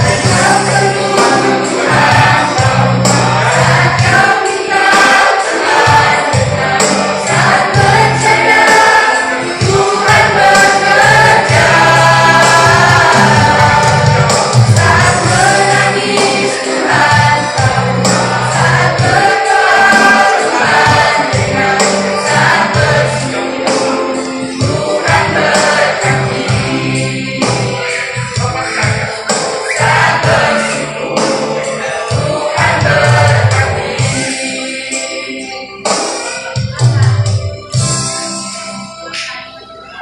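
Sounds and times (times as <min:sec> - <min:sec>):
choir singing: 0:00.0 - 0:40.0
musical accompaniment with bass: 0:00.0 - 0:40.0.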